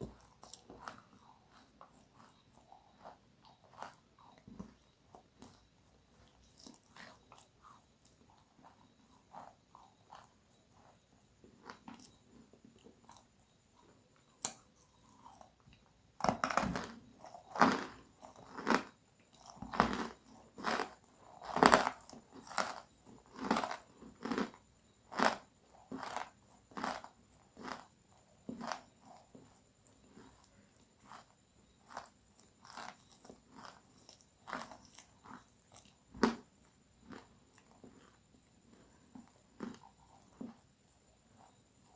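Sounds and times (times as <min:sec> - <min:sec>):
chewing crispy food: 0:00.0 - 0:41.9.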